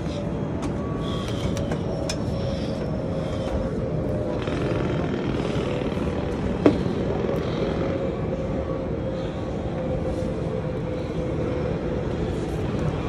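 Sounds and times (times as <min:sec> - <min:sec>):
faint steady hum: 0:00.0 - 0:13.0
outdoor rumble: 0:00.0 - 0:13.0.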